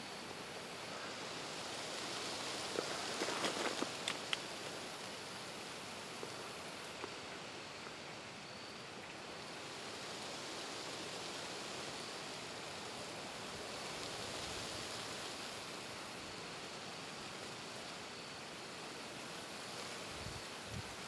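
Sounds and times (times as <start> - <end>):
wind rustling shrubs and trees: 0.0 - 21.0.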